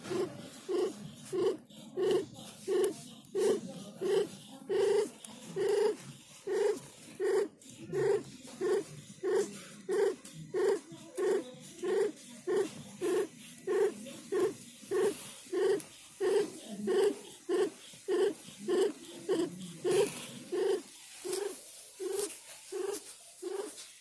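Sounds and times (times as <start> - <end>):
cat breathing hard: 0.0 - 23.9.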